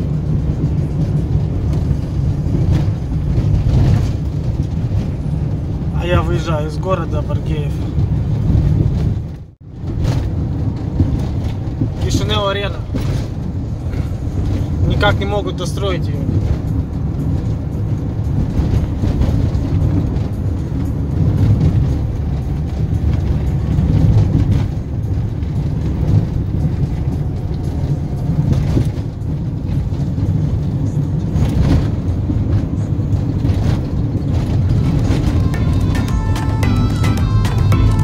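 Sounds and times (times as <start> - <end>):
car engine and tyre rumble: 0.0 - 38.0.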